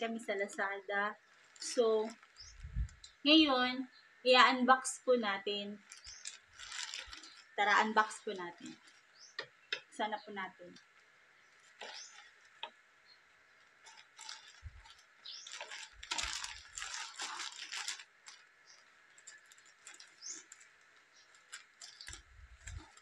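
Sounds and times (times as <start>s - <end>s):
plastic crinkling: 0.0s - 3.3s, 5.2s - 23.0s.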